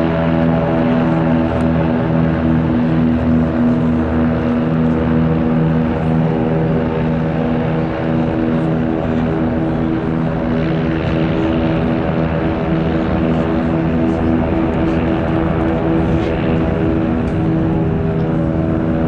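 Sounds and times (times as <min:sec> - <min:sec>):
propeller aircraft engine running: 0:00.0 - 0:19.0.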